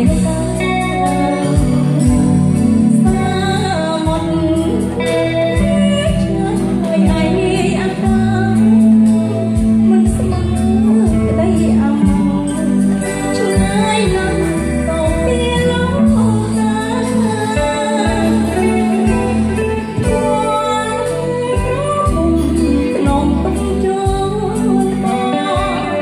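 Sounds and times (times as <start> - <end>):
band with guitar and keyboard: 0.0 - 26.0
woman singing into microphone: 0.0 - 26.0.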